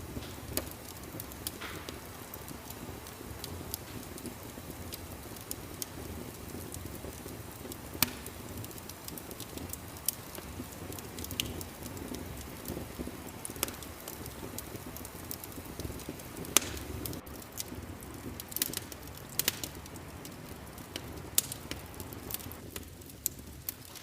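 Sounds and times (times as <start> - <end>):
wood fire crackling: 0.0 - 24.0
sharp snaps and pops: 0.1 - 24.0.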